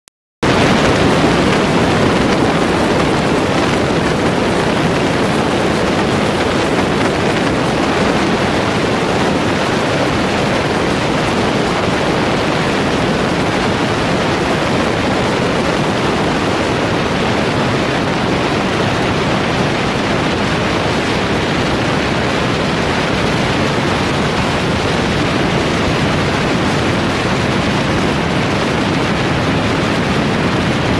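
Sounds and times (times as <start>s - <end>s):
car road noise: 0.4s - 30.9s
wind rushing across microphone: 0.4s - 30.9s.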